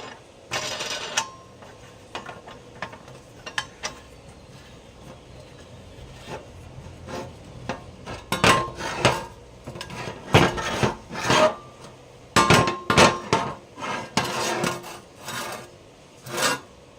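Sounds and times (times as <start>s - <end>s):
metal scraping: 0.0s - 16.8s.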